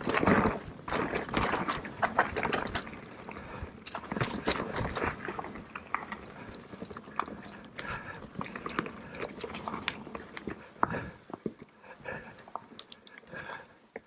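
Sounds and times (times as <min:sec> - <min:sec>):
bike rattling: 0:00.0 - 0:12.8.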